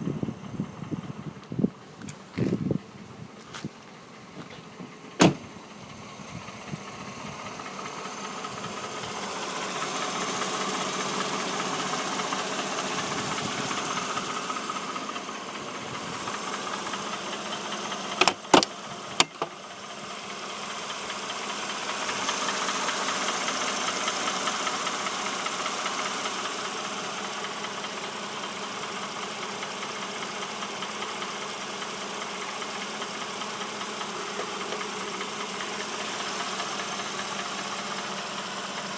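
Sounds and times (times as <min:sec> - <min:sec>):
engine knocking: 0:05.6 - 0:38.9.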